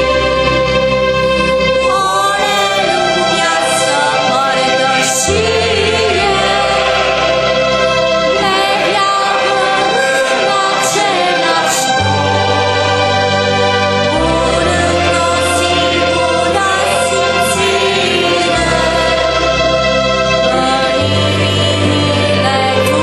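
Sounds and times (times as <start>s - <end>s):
choir singing a slow hymn: 0.0s - 23.0s
held low notes: 0.0s - 23.0s.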